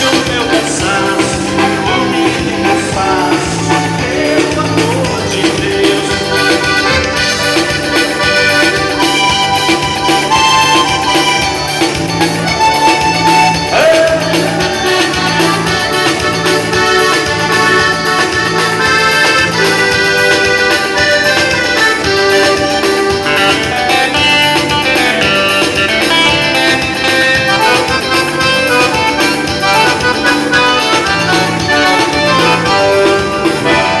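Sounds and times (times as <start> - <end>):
accordion dance music: 0.0 - 34.0
repeating bass beat: 0.0 - 34.0.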